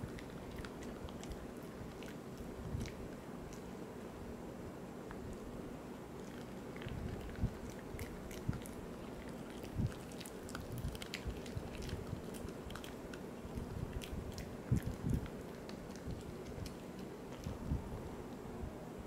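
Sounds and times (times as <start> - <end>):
dog chewing crunchy chew: 0.0 - 3.8, 6.2 - 18.1.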